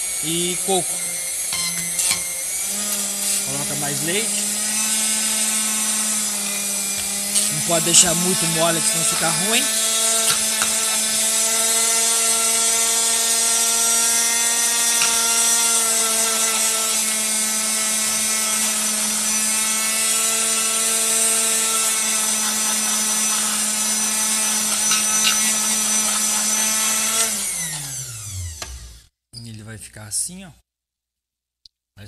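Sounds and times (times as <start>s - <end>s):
milkshake mixer motor whine: 0.0s - 29.1s.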